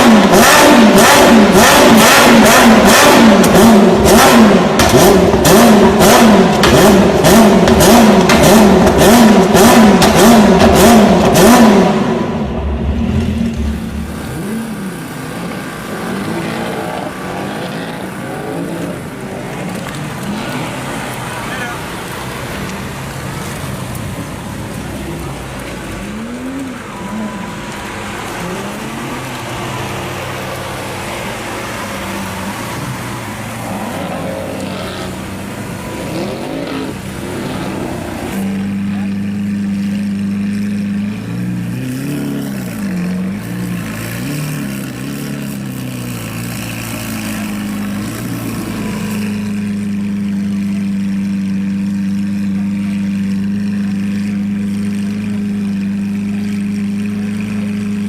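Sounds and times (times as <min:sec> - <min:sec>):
car engine idling: 0:00.0 - 0:58.0
car engine revving: 0:00.0 - 0:58.0.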